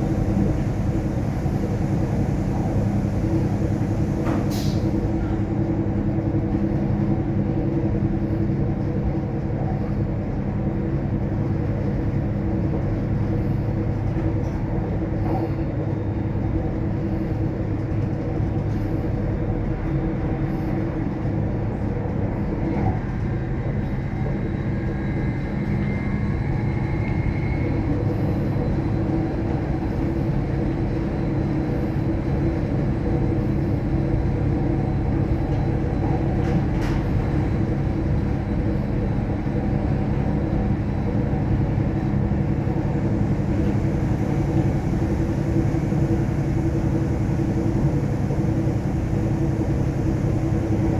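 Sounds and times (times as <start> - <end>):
train rumbling on board: 0.0 - 50.9.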